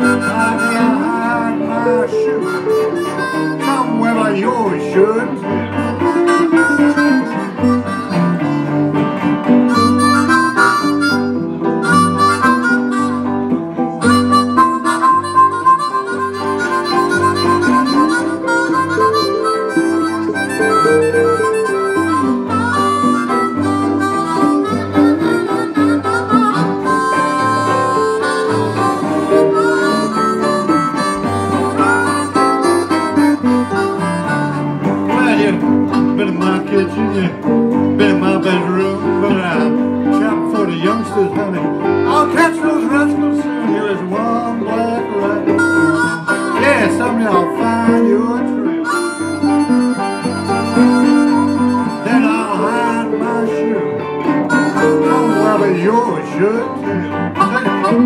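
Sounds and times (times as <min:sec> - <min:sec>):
electric guitars: 0:00.0 - 0:58.0
harmonica with bent notes: 0:00.0 - 0:58.0.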